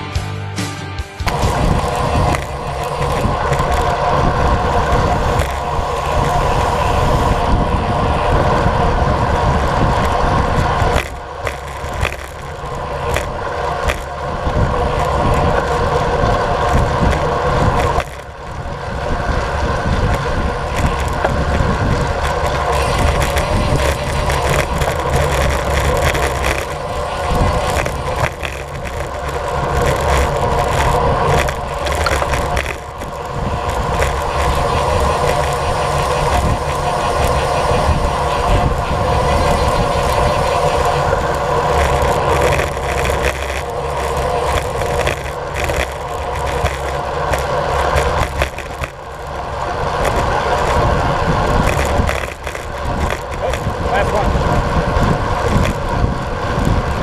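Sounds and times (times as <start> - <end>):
tyres humming on asphalt: 0.0 - 57.0
wind noise on camera: 1.2 - 57.0.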